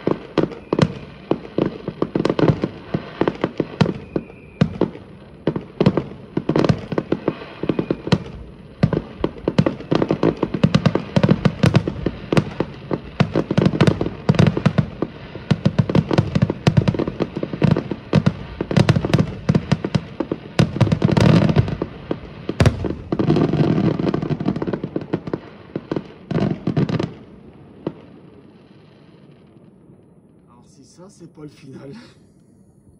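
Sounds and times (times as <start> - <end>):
fireworks bangs and bursts: 0.0 - 29.7.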